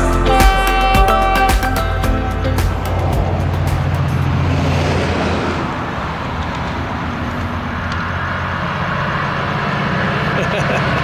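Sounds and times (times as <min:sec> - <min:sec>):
locomotive engine drone: 0:00.0 - 0:11.0
wheels rumbling on rails: 0:01.1 - 0:11.0.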